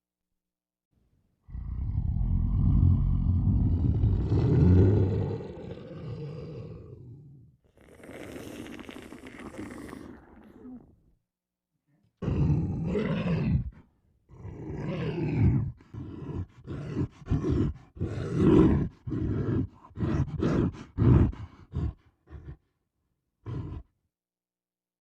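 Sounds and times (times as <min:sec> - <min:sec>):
person growling and roaring: 0:01.4 - 0:11.0, 0:12.2 - 0:22.7, 0:23.4 - 0:24.0.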